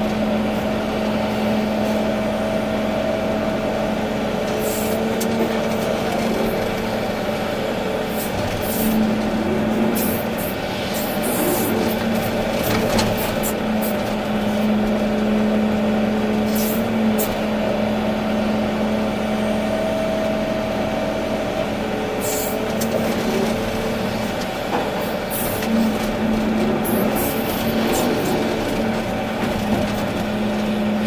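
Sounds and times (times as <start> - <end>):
diesel engine humming: 0.0 - 31.0.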